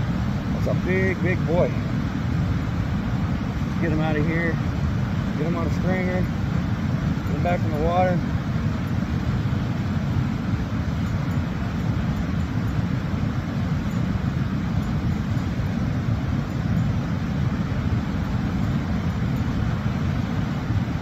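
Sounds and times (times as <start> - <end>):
waterfall rumble: 0.0 - 21.0.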